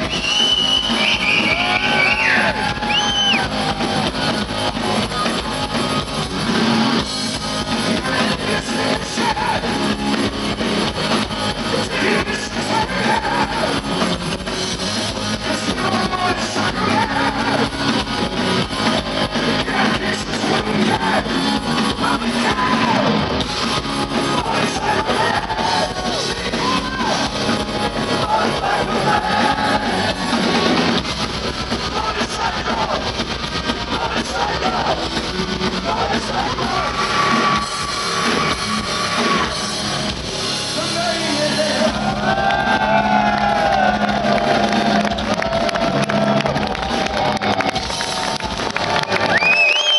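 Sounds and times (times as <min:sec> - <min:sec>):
drums: 0:00.0 - 0:49.9
electric guitars: 0:00.0 - 0:49.9.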